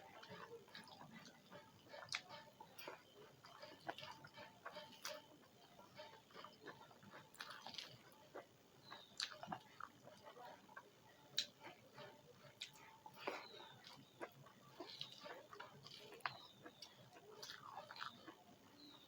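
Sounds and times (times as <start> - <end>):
faint chewing of food: 0.0 - 19.0.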